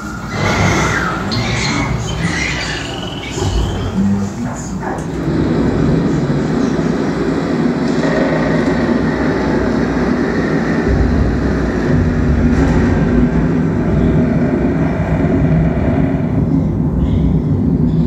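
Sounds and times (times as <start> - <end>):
ambient low rumble soundtrack: 0.0 - 18.0.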